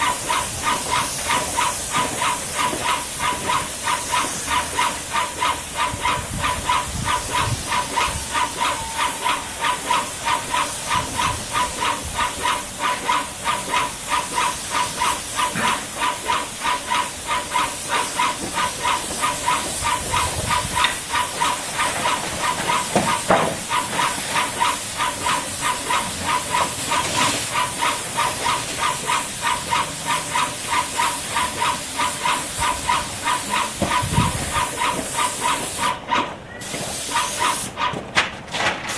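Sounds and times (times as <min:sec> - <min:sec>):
paint spraying hiss: 0:00.0 - 0:36.0, 0:36.6 - 0:37.7
sprayer pump pulsing: 0:00.0 - 0:37.9.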